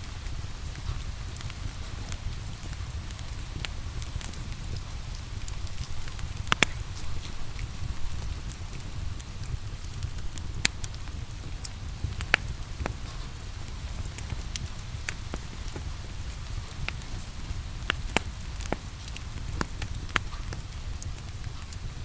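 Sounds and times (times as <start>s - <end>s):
low rumble of flames: 0.0s - 22.0s
rain hissing: 0.0s - 22.0s
wood fire crackling and popping: 0.0s - 22.0s.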